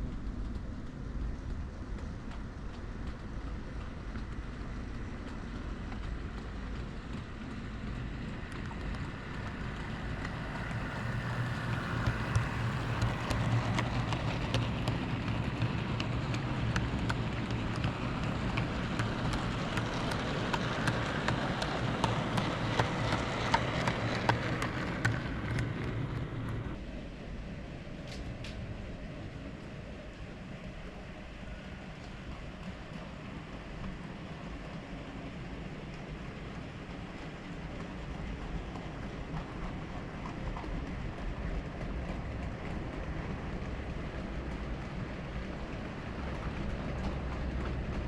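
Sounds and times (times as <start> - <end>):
wheels clicking over rail joints: 0.3 - 26.8, 35.4 - 48.0.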